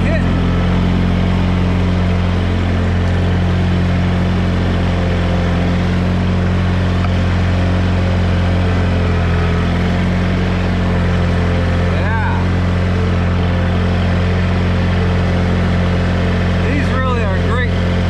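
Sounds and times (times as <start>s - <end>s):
garden tractor engine running: 0.0s - 18.0s.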